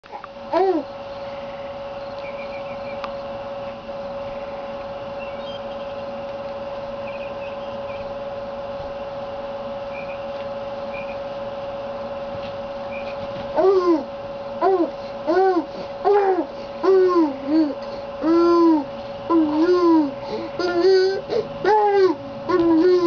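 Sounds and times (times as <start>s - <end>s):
steady mid-pitched hum: 0.0s - 23.0s.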